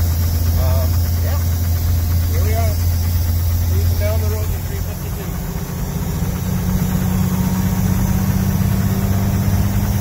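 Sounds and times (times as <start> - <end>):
diesel engine drone: 0.0 - 10.0.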